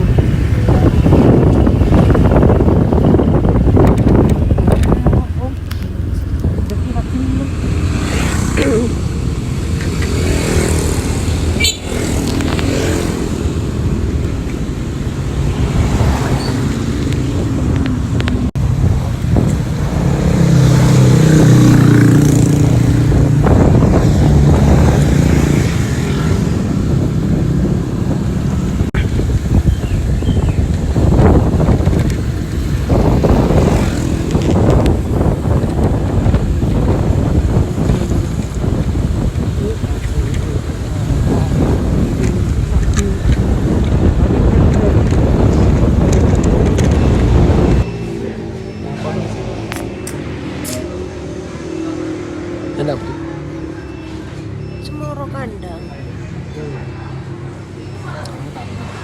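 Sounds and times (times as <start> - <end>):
wind buffeting microphone: 0.0 - 52.7
traffic noise: 0.0 - 59.0
vehicle engine rumble: 0.0 - 59.0.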